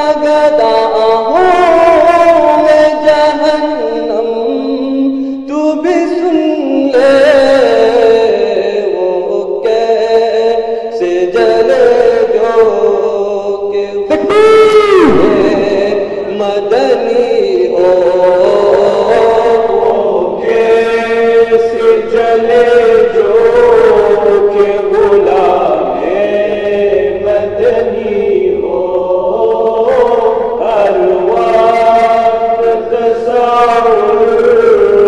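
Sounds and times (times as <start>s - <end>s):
group singing unaccompanied: 0.0s - 35.0s.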